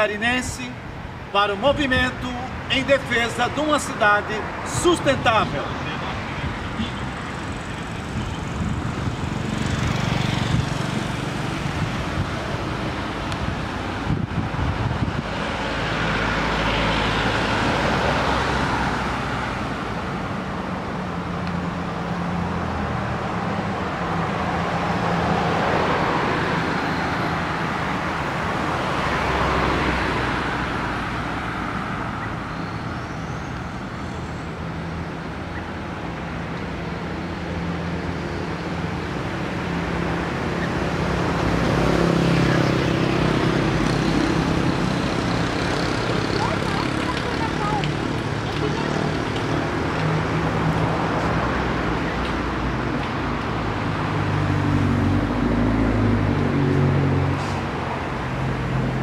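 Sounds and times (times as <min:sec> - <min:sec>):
cars passing: 0:00.0 - 0:59.0
low traffic hum: 0:00.0 - 0:59.0.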